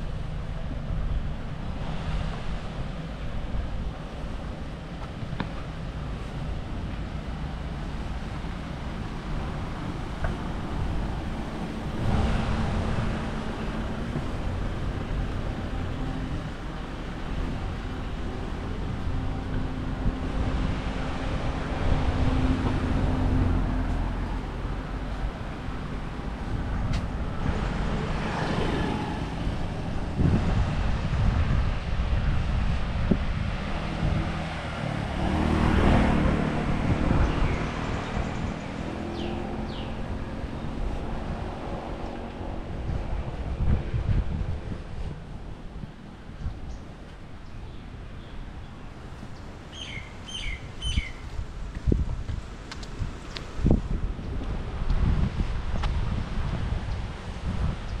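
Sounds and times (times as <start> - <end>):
low traffic rumble: 0.0 - 58.0
vehicles passing: 0.0 - 58.0
wind buffeting microphone: 0.0 - 58.0.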